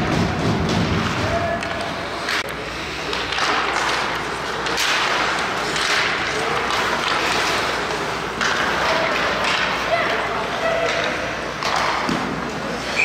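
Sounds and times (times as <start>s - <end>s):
skate blades scraping ice: 0.3s - 13.0s.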